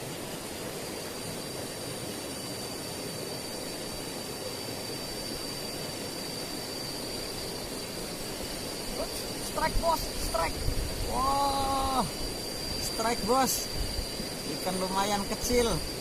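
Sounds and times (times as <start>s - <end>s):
continuous rushing noise: 0.0s - 16.0s
high-pitched whine: 0.0s - 16.0s.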